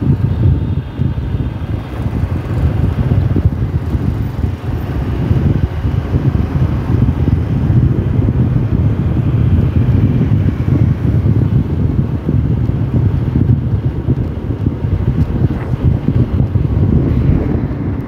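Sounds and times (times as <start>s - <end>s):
motorcycle engine running: 0.0s - 18.0s
road noise: 0.0s - 18.0s
wind buffeting microphone: 0.0s - 18.0s.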